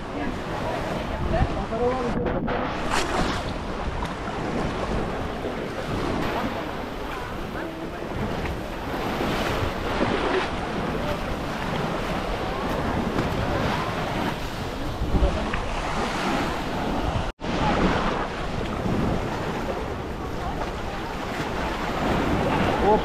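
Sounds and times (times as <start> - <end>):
sea water washing: 0.0 - 23.0
wind buffeting microphone: 0.0 - 23.0.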